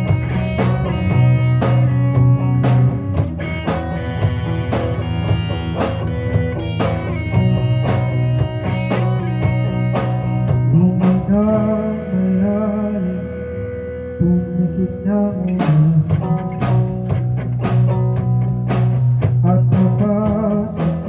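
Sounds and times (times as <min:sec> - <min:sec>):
drum kit: 0:00.0 - 0:12.6, 0:15.3 - 0:21.0
bass line: 0:00.0 - 0:21.0
guitar chords: 0:00.0 - 0:21.0.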